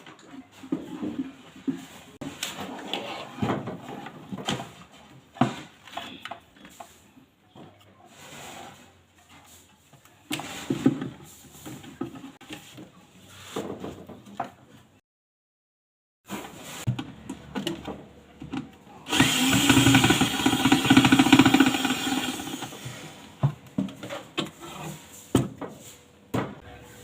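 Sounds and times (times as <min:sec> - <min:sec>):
objects knocking and scraping: 0:00.0 - 0:15.0, 0:16.2 - 0:27.0.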